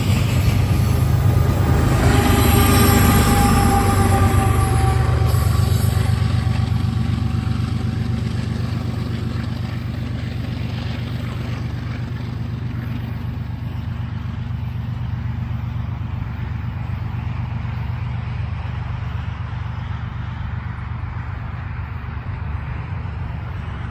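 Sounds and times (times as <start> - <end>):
diesel locomotives rumbling: 0.0 - 23.9.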